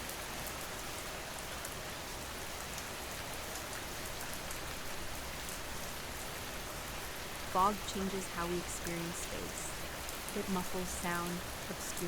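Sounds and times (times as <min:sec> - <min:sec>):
rain falling on a surface: 0:00.0 - 0:12.0.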